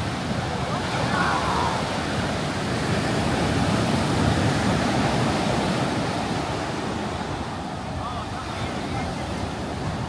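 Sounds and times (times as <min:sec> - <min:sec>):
ocean surf washing on shore: 0:00.0 - 0:10.0.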